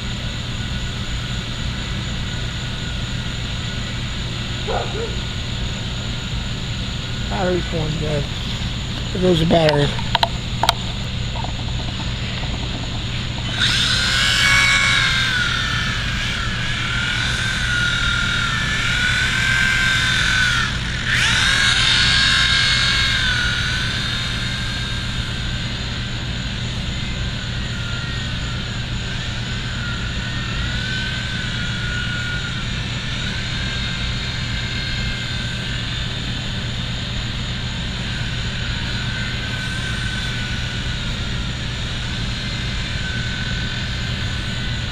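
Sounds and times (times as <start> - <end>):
steady low hum: 0.0 - 44.9
toy helicopter motor whine: 0.0 - 44.9.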